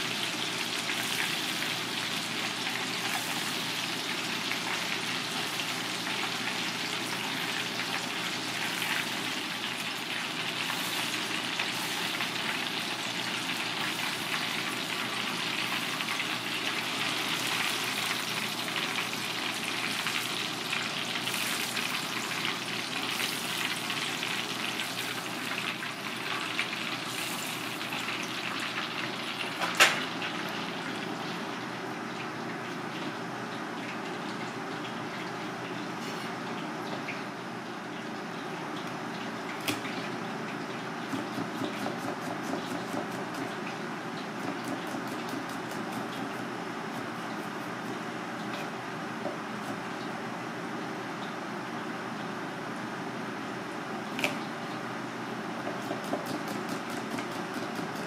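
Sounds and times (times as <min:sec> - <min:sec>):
hot oil sizzling: 0:00.0 - 0:52.0.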